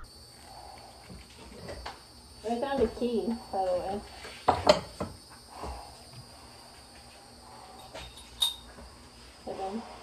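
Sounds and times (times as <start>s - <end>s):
faint high-pitched chirring: 0.0s - 10.0s.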